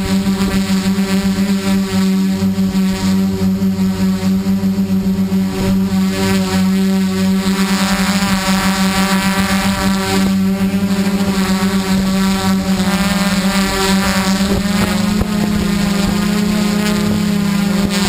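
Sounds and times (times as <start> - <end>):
quadcopter droning hum: 0.0 - 18.0.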